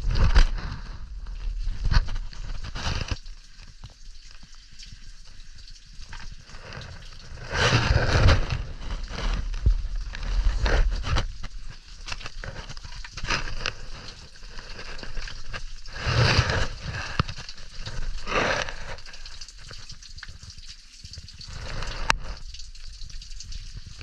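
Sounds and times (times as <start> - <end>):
water dripping onto wet rock: 0.0 - 24.0.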